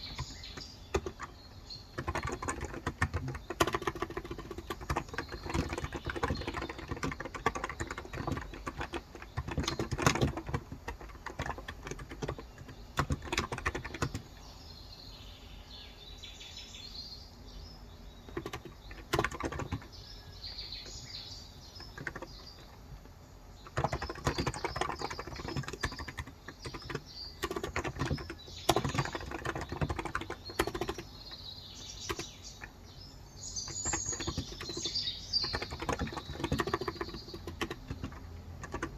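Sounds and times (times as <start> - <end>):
fast typing on keyboard: 0.0 - 14.4, 18.2 - 20.0, 21.6 - 23.0, 23.6 - 32.8, 33.6 - 38.9
birds chirping: 0.0 - 38.9.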